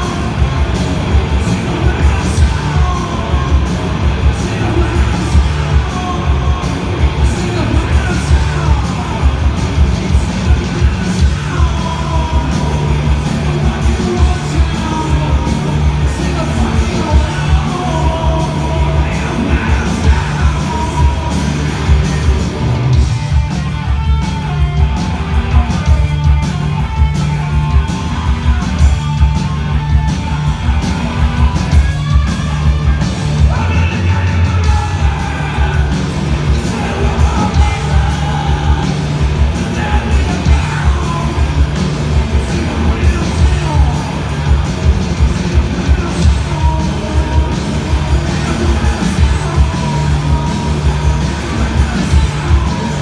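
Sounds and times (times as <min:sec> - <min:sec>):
singer yelling: 0:00.0 - 0:23.0, 0:30.8 - 0:53.0
live rock band playing: 0:00.0 - 0:53.0.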